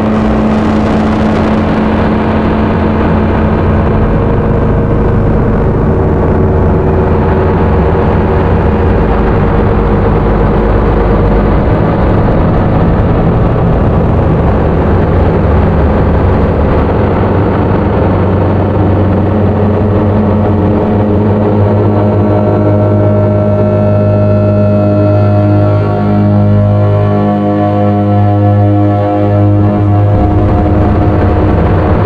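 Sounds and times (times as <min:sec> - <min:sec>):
gritty low synth drone: 0:00.0 - 0:32.0.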